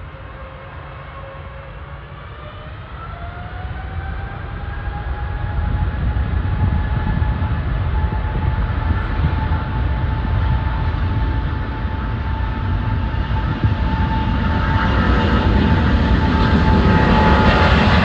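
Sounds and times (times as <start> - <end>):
jet airliner engines: 0.0 - 18.0
rising engine whine: 0.0 - 18.0
deep rumble: 2.1 - 18.0.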